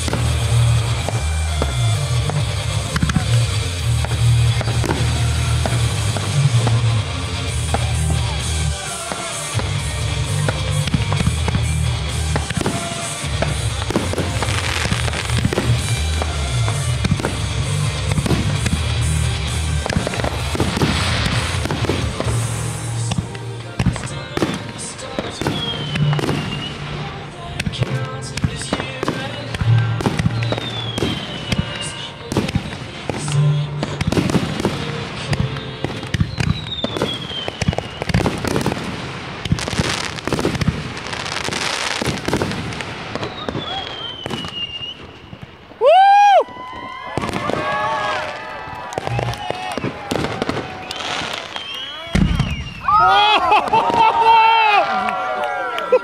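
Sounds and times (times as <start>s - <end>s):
music playing: 0.0s - 44.7s, 47.2s - 56.0s
crackling hiss: 0.0s - 53.0s
fireworks bursting: 0.0s - 56.0s.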